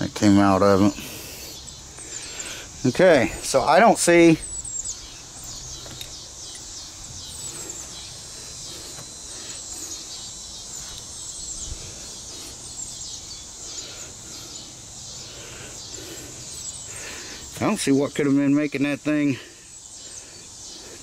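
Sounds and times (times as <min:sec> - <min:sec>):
small birds chirping: 0:00.0 - 0:21.0
steady high hiss: 0:00.0 - 0:21.0.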